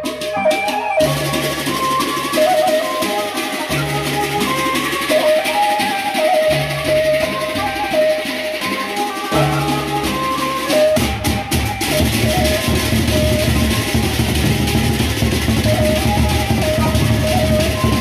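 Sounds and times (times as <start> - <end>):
drum and cymbal ensemble: 0.0 - 18.0
large barrel drums: 0.0 - 18.0.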